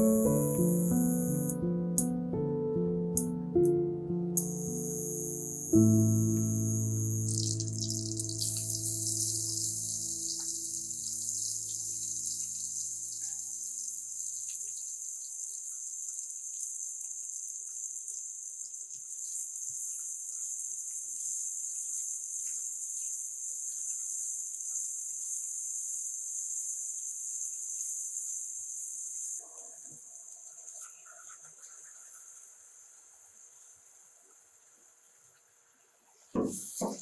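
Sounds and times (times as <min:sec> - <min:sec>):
garlic and onion sizzling in oil: 0:00.0 - 0:01.6, 0:04.4 - 0:35.8, 0:36.4 - 0:37.0.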